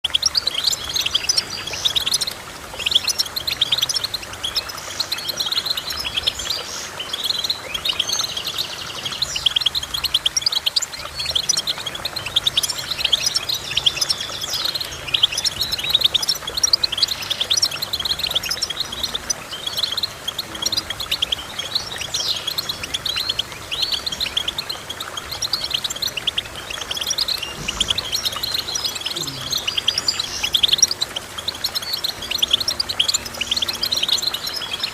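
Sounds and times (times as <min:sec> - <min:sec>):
bird twittering chirps and trills: 0:00.0 - 0:34.9.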